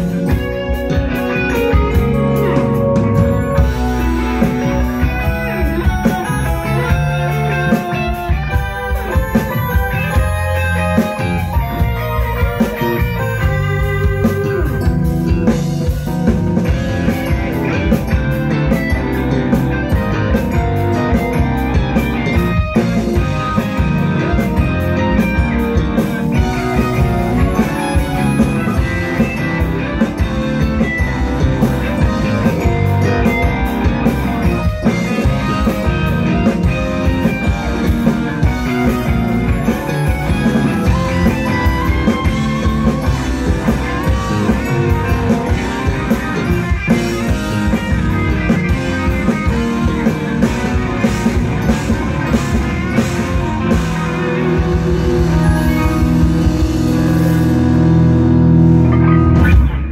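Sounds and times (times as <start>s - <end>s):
bass guitar: 0.0s - 59.9s
drum kit: 0.0s - 59.9s
electric guitars: 0.0s - 59.9s
keyboard: 0.0s - 59.9s.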